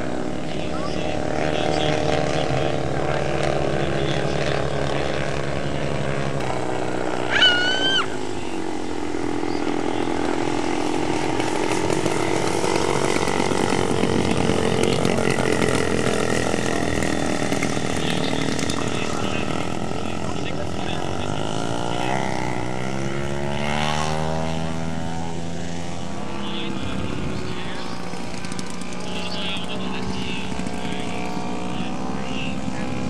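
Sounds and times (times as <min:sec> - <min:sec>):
model airplane engines running: 0:00.0 - 0:33.0.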